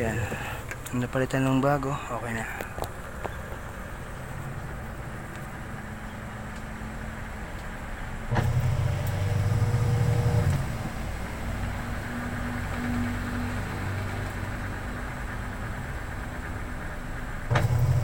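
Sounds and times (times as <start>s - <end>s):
washing machine motor humming: 3.1s - 18.0s.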